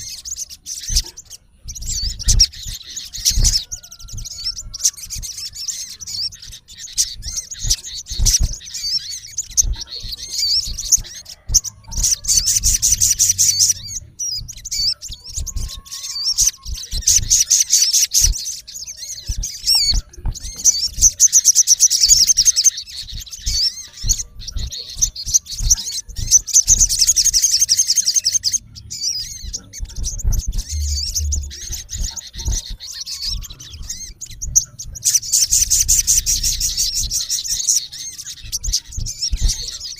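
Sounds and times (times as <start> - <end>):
sunbird trilled chirps: 0.0 - 39.9.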